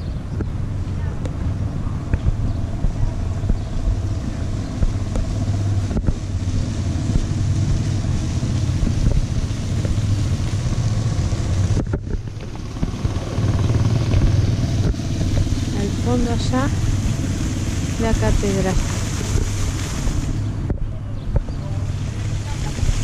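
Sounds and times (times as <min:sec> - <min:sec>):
motorcycle engine running: 0:00.0 - 0:19.4
wind on microphone: 0:00.0 - 0:23.0.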